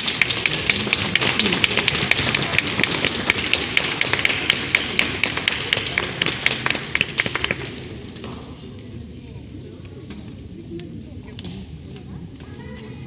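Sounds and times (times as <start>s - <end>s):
background hubbub: 0.0s - 13.0s.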